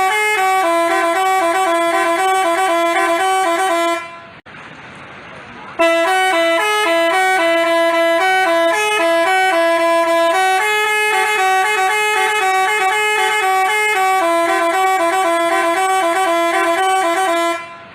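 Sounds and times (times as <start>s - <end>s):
musical bus horn playing a tune: 0.0s - 4.4s, 5.8s - 17.9s.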